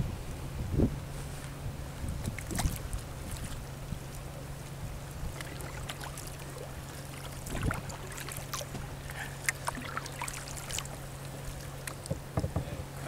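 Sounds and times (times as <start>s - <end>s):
steady low hum: 0.0s - 13.0s
small knocks and drips: 2.2s - 12.7s
paddle blades splashing water: 2.2s - 13.0s.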